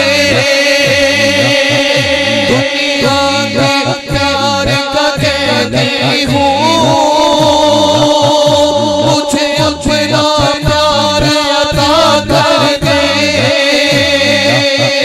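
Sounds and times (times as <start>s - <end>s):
low repeating backing music: 0.0s - 15.0s
man singing devotional song: 0.0s - 15.0s.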